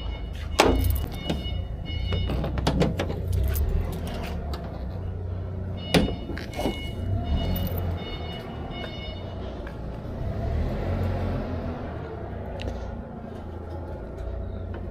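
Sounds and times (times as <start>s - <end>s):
vehicle engine rumbling: 0.0s - 14.9s.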